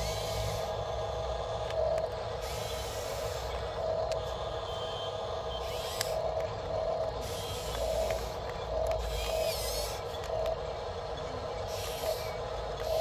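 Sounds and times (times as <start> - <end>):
electric gear motors whining: 0.0 - 13.0.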